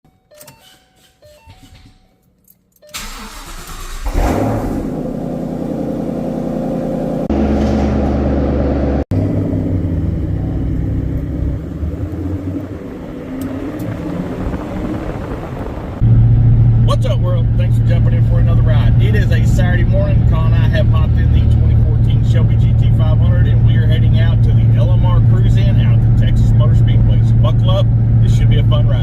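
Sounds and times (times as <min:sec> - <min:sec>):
car engine starting and idling: 0:02.8 - 0:29.0.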